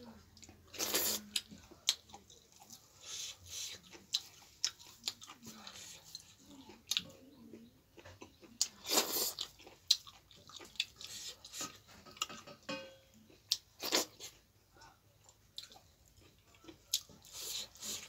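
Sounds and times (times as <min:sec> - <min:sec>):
chewing food: 0:00.0 - 0:12.6, 0:13.2 - 0:18.0.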